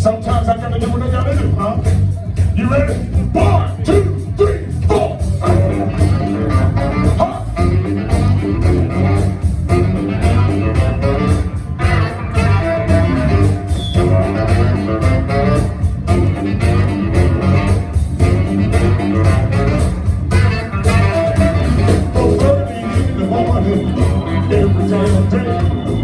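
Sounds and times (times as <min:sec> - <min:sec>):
blues band instrumental: 0:00.0 - 0:26.0.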